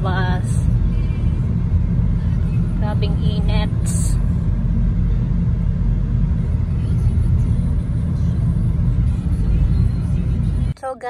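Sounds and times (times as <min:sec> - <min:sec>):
car driving from inside cabin: 0:00.0 - 0:11.0.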